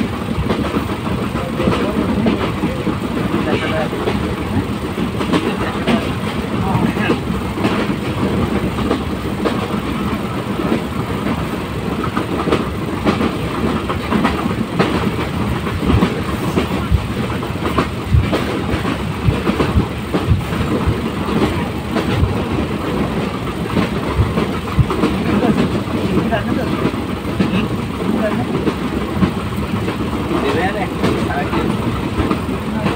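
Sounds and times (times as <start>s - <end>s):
train rumbling on track: 0.0s - 32.9s.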